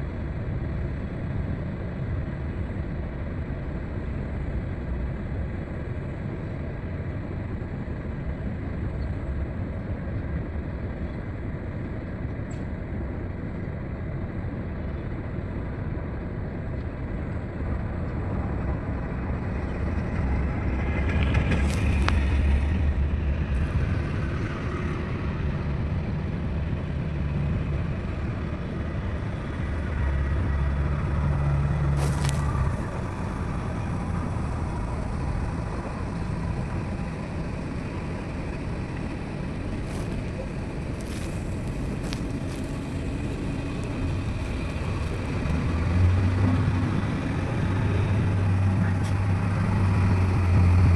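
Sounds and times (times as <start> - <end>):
diesel earthmoving machinery running: 0.0 - 50.9.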